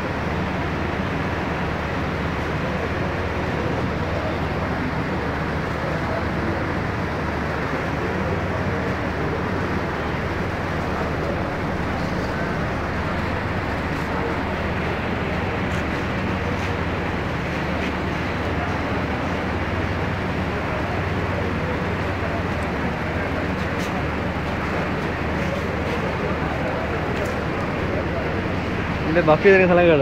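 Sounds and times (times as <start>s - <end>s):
crowd chatter: 0.0s - 30.0s.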